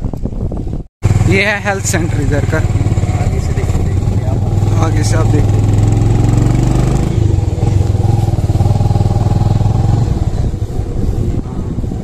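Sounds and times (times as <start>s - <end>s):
motorcycle engine running: 0.4s - 12.0s.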